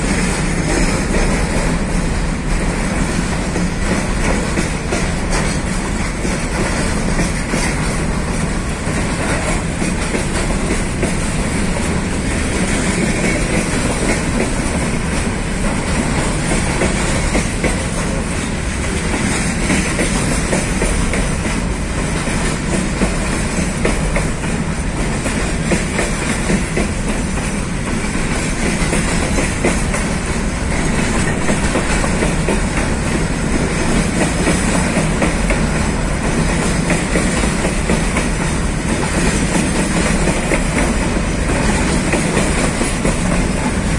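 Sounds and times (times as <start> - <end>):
steel wheels rumbling on rails: 0.0 - 43.9
wheels clacking over rail joints: 0.0 - 43.9.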